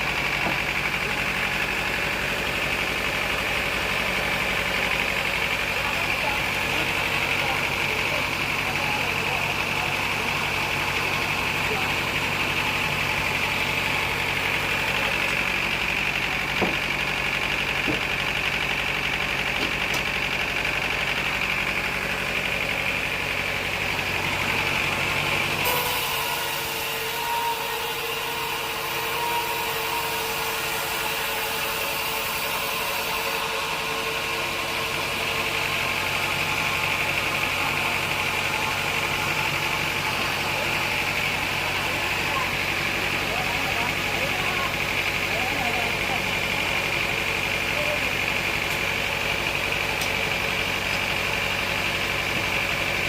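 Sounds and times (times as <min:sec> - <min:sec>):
high machine whine: 0:00.0 - 0:53.0
sawmill machinery drone: 0:00.0 - 0:53.0.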